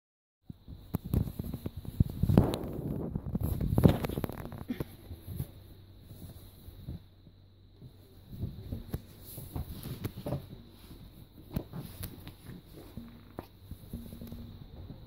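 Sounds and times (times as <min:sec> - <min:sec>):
bed sheet rustling: 0:01.0 - 0:07.1, 0:07.8 - 0:14.6.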